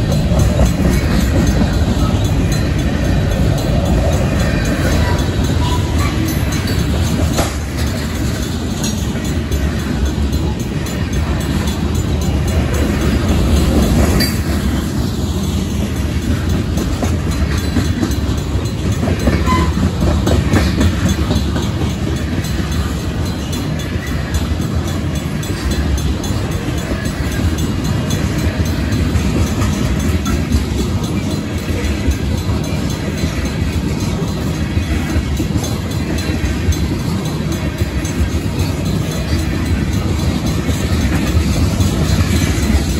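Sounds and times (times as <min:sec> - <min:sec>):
train clattering over crossing: 0:00.0 - 0:42.9
train wheels rumbling on rails: 0:00.0 - 0:42.9.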